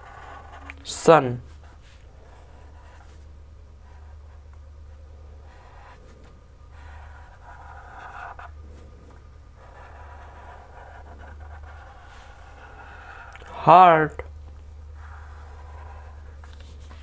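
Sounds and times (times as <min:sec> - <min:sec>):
marker scratching on paper: 0:00.0 - 0:04.4, 0:05.3 - 0:08.9, 0:09.6 - 0:13.3, 0:15.0 - 0:17.0
low steady hum: 0:00.0 - 0:17.0.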